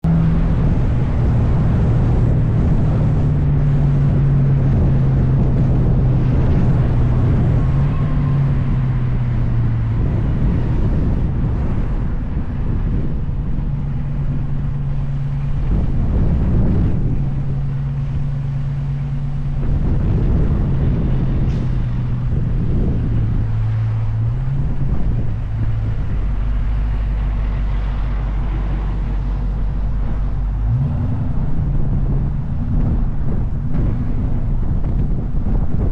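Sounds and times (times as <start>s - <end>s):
road and wind noise: 0.0s - 35.9s
vehicle engine droning: 0.0s - 35.9s.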